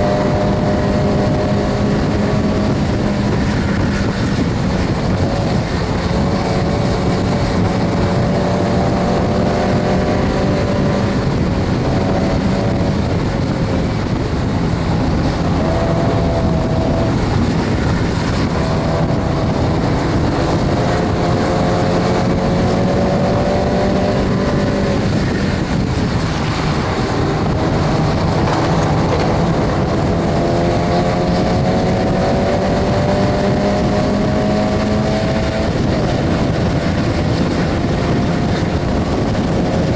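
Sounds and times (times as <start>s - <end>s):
car engine accelerating: 0.0s - 39.9s
wind and road noise: 0.0s - 39.9s.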